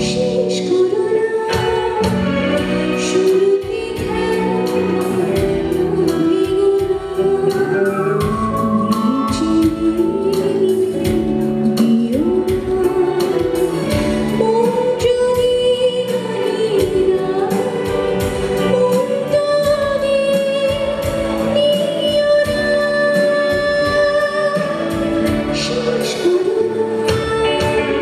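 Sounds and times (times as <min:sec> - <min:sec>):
instrumental accompaniment: 0:00.0 - 0:28.0.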